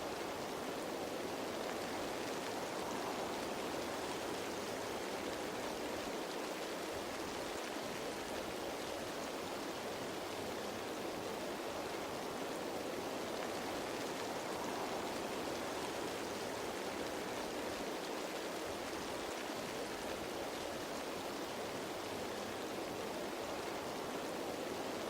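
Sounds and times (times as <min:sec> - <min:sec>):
rain pattering on leaves: 0:00.0 - 0:25.0.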